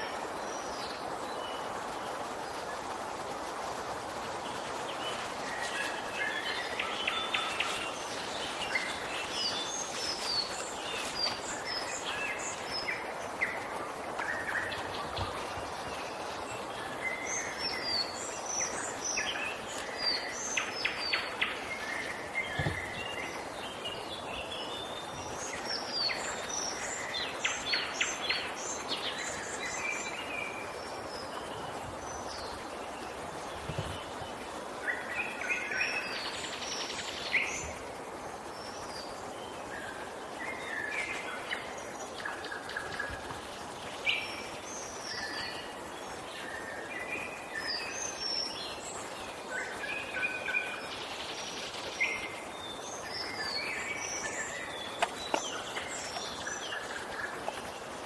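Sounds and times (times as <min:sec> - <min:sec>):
songbirds singing: 0:00.0 - 0:58.0
steady background hiss: 0:00.0 - 0:58.0.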